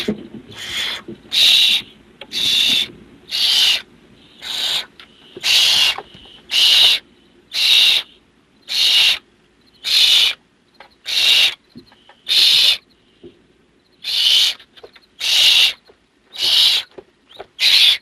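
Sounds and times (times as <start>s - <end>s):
owl nestlings hissing calls: 0.0s - 9.2s, 9.8s - 13.2s, 14.0s - 18.0s.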